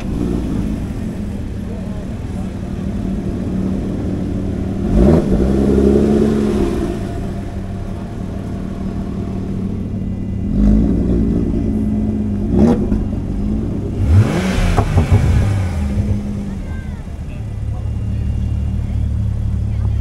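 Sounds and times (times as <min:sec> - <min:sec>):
engine revving: 0:00.0 - 0:20.0
sports car engines idling: 0:00.0 - 0:20.0.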